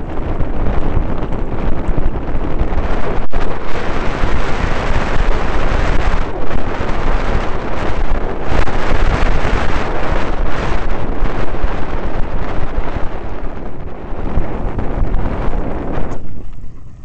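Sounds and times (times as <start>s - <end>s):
bike tyres rumbling on gravel: 0.0s - 17.0s
wind buffeting microphone: 0.0s - 17.0s.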